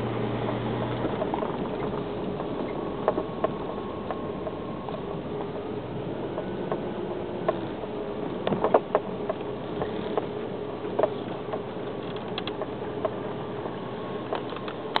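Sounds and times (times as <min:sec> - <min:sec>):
car drive hum: 0:00.0 - 0:15.0.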